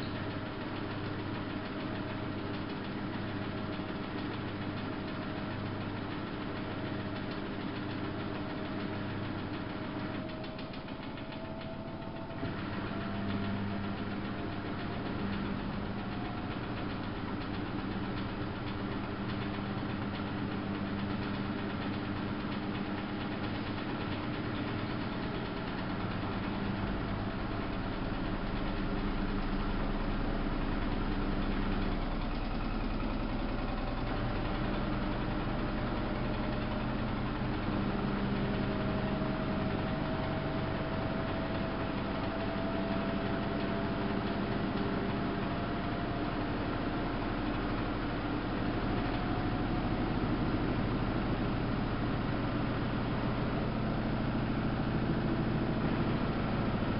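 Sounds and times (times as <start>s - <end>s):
washing machine running: 0.0s - 56.9s.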